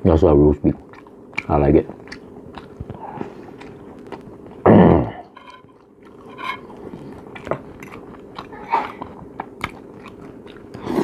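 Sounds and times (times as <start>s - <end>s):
man chewing food: 0.6s - 11.0s.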